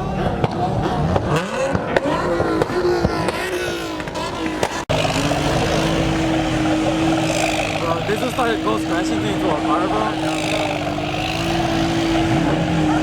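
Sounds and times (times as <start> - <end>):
car engines revving: 0.0 - 13.0
engine droning steadily: 0.0 - 13.0.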